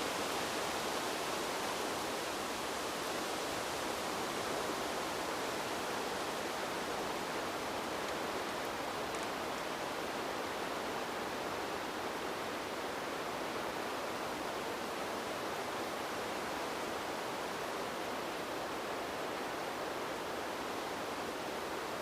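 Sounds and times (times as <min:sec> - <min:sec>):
wind blowing steadily: 0:00.0 - 0:22.0.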